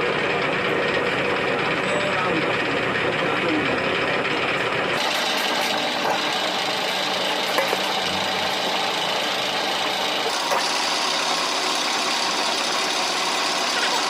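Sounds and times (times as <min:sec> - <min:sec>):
machine running steadily: 0:00.0 - 0:14.0.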